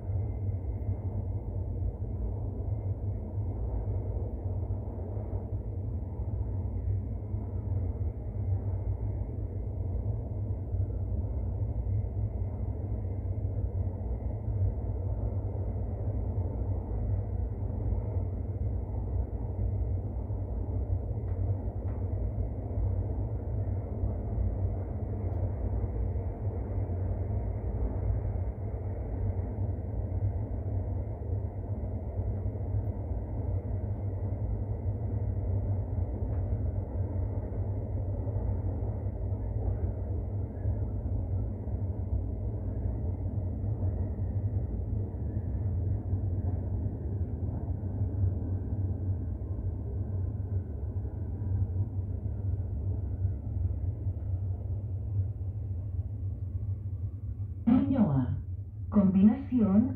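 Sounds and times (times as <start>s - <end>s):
train rumbling in tunnel: 0.0s - 59.9s.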